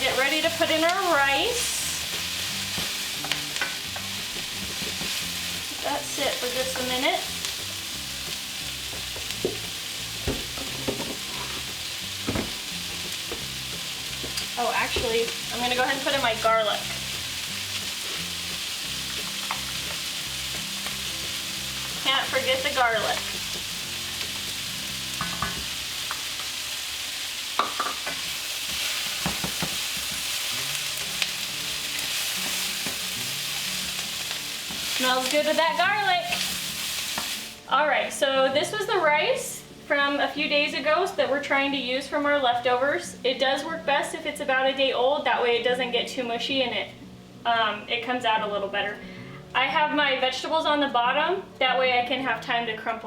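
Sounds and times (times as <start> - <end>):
food sizzling in a frying pan: 0.0 - 46.8.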